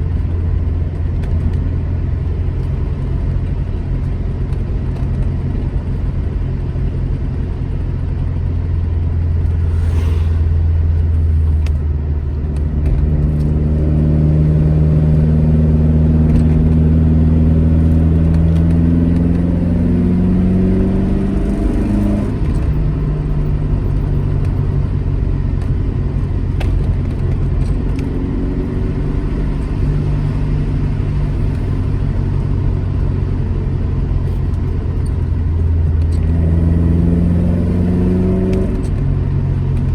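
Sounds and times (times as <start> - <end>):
car engine accelerating: 0.1 - 39.9.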